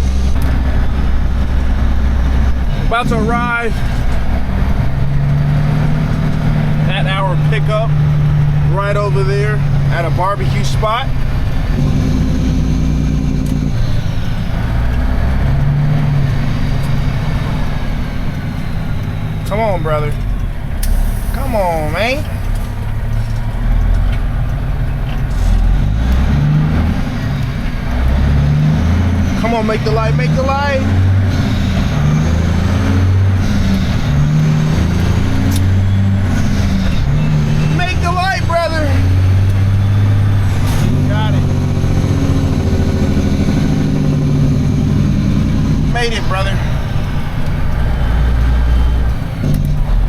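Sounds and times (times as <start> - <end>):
truck diesel engine droning: 0.0 - 50.0.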